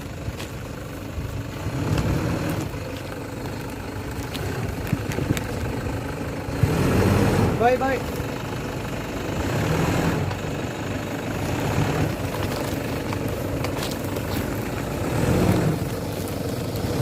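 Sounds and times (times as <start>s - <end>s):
car engine revving: 1.2s - 17.0s.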